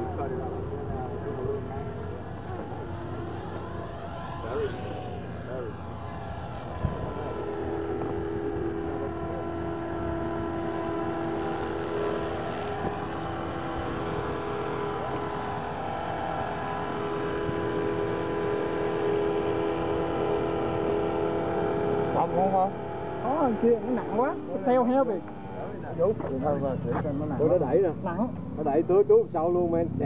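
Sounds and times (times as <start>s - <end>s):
model helicopter whine: 0.0s - 30.0s.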